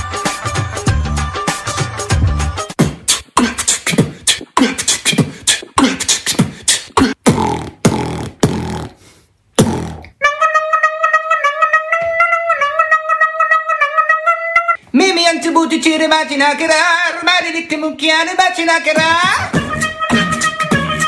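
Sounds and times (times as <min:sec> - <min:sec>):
beatboxing: 0:01.5 - 0:14.4, 0:15.8 - 0:21.0
pitched vocal melody: 0:02.8 - 0:21.0.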